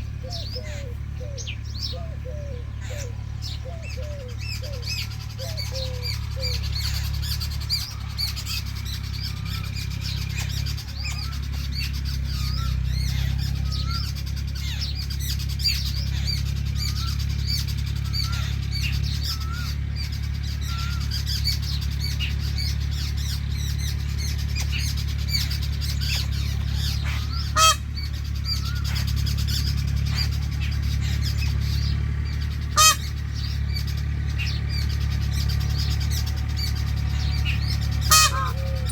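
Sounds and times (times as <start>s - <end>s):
birds chirping and calling: 0.0s - 38.9s
short loud bird calls: 0.0s - 38.9s.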